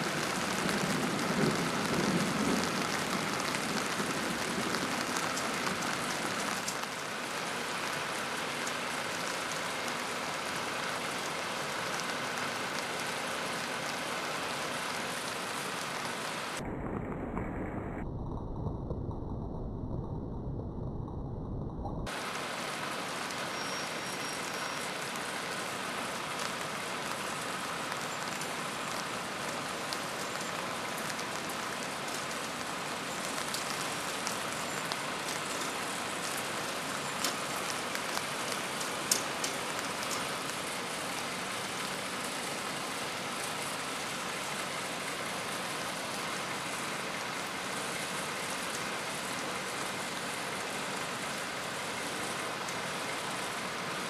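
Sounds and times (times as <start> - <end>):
raindrops ticking on something close: 0.0 - 16.6, 18.2 - 54.0
steady rain hissing: 0.0 - 54.0.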